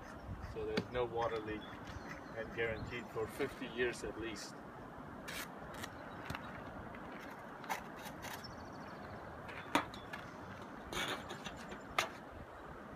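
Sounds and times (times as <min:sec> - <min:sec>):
outdoor background noise: 0:00.0 - 0:12.9.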